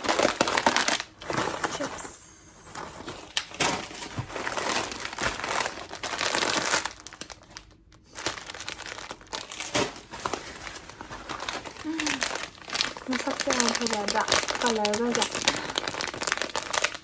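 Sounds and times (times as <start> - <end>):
plastic chip bag rustling: 0.0 - 17.0.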